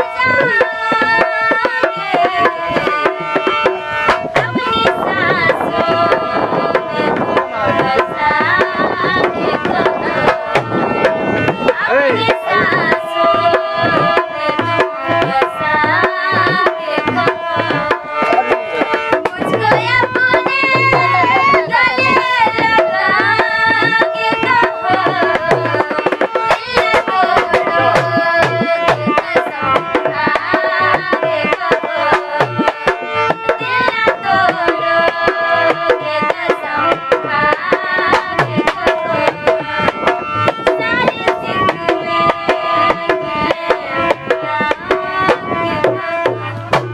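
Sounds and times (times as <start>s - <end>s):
hand drum strokes: 0.0s - 46.9s
woman singing: 0.0s - 46.9s.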